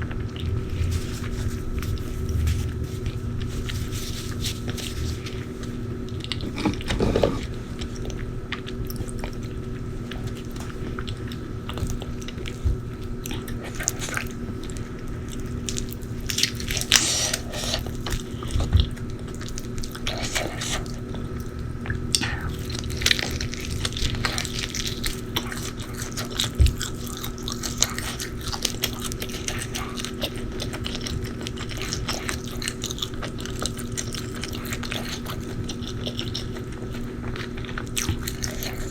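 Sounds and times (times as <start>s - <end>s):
faint steady hum: 0.0s - 38.9s
person chewing and crunching: 0.0s - 38.9s.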